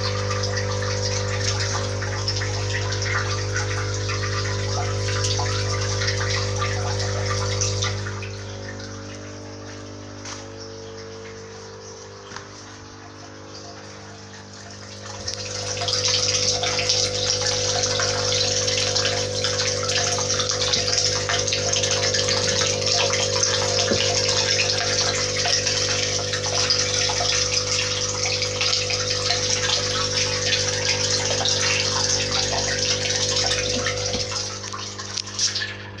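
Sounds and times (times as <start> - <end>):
electric pump hum: 0.0 - 36.0
water churning and splashing: 0.0 - 36.0.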